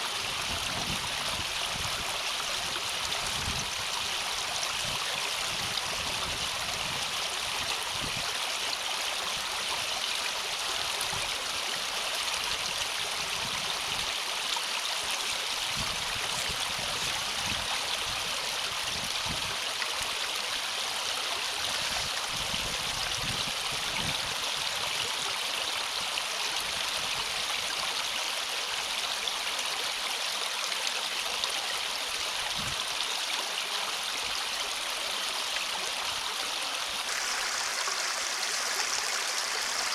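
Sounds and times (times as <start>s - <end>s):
water rushing through culvert: 0.0s - 39.9s.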